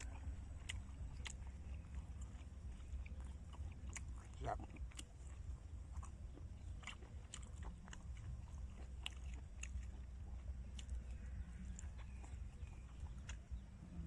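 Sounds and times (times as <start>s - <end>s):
low rumble: 0.0s - 14.0s
person chewing food: 0.0s - 14.0s.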